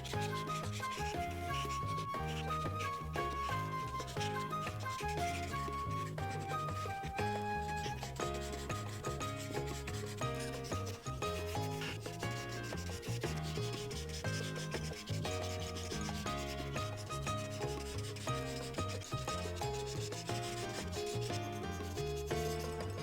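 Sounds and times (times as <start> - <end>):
background music with bass: 0.0 - 23.0
marker scratching on paper: 0.0 - 23.0.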